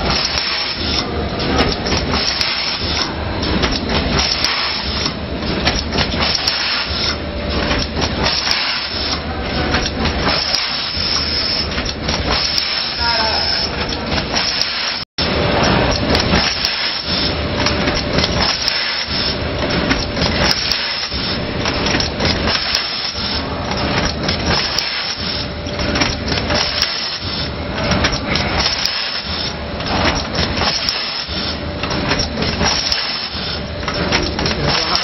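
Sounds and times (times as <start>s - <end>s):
machine clattering: 0.0s - 35.0s.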